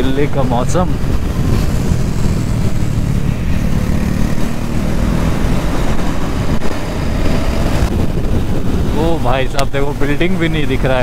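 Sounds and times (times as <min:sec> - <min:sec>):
motorcycle engine cruising: 0:00.0 - 0:09.9
road noise: 0:00.0 - 0:11.0
wind noise: 0:00.0 - 0:11.0.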